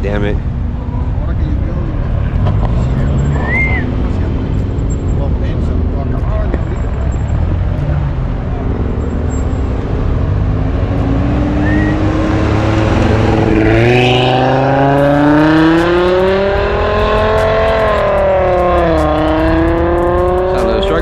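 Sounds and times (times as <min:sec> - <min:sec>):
vehicle engine accelerating: 0:00.0 - 0:21.0.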